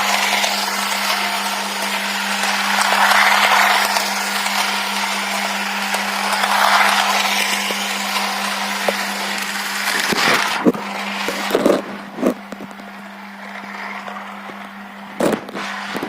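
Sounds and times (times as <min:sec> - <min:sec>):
toy train motor rattling whir: 0:00.0 - 0:14.6.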